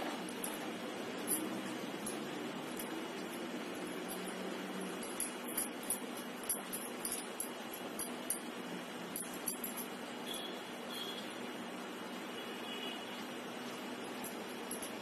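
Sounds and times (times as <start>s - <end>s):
bangles jingling: 0.0s - 11.3s, 13.6s - 15.0s.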